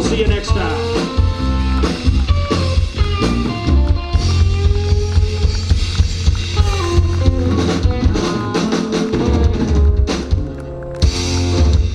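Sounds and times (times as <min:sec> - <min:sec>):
live band playing instrumental: 0:00.0 - 0:10.6.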